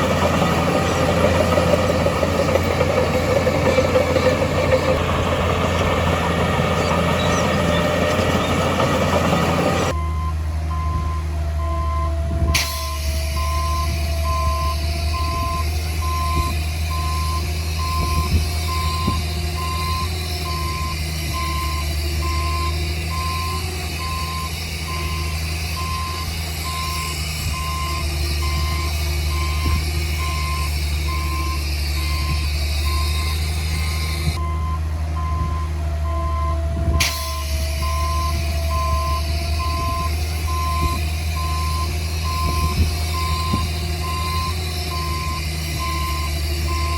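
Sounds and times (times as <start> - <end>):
diesel engine under load: 0.0 - 46.9
reversing alarm beeping: 0.0 - 46.9.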